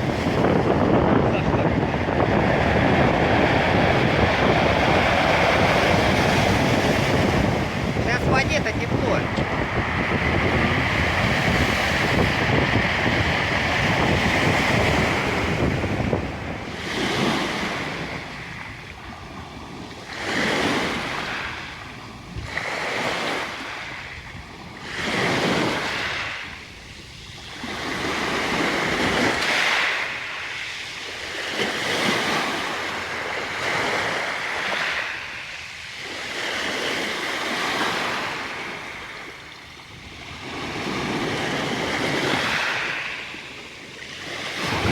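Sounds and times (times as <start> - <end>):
waves washing on shore: 0.0 - 44.9.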